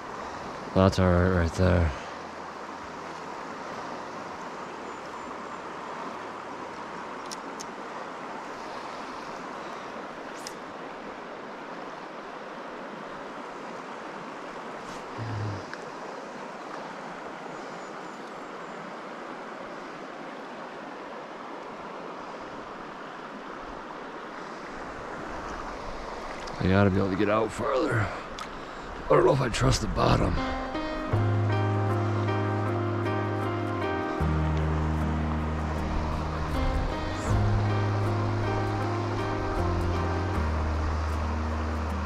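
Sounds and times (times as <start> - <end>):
brook water rushing: 0.0 - 42.0.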